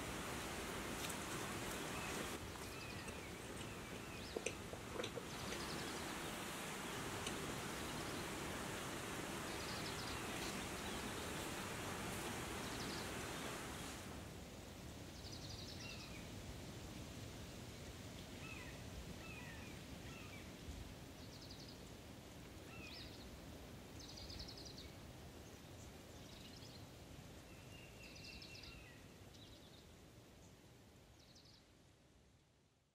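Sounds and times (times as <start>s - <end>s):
outdoor ambience hiss: 0.0s - 32.9s.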